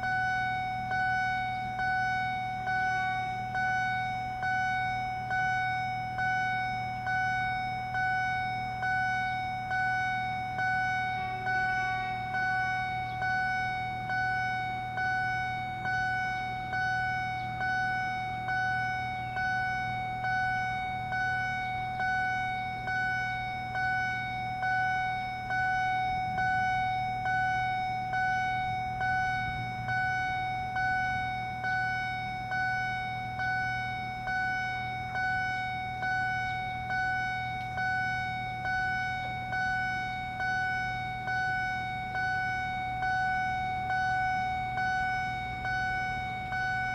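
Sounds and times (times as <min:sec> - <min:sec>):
level crossing bell: 0:00.0 - 0:46.9
steady low hum: 0:00.0 - 0:46.9.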